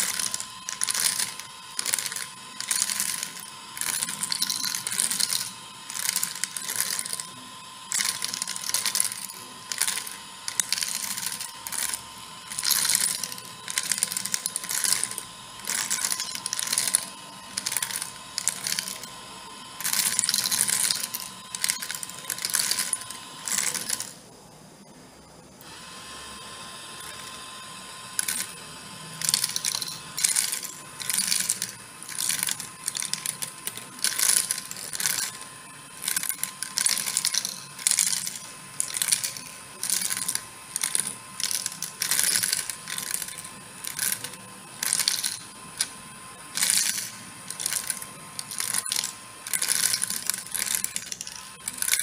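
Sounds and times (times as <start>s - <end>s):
plastic beads clattering: 0.0s - 19.2s, 19.8s - 24.2s, 27.0s - 27.3s, 28.2s - 28.6s, 29.2s - 52.0s
faint motor whine: 0.0s - 52.0s.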